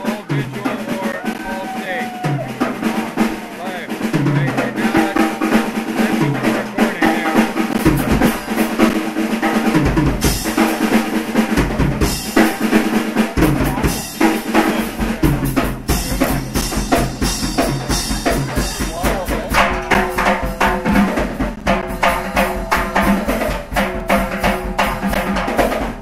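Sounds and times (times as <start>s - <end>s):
cymbals: 0.0s - 26.0s
rock drum kit: 0.0s - 26.0s.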